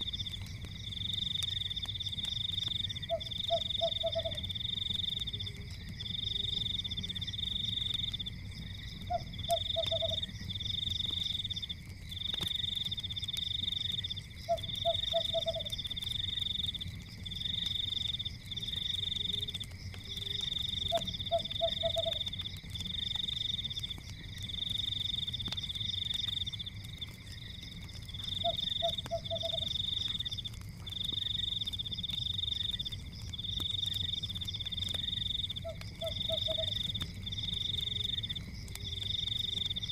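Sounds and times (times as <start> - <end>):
fire crackling: 0.0 - 39.9
low croak: 0.0 - 39.9.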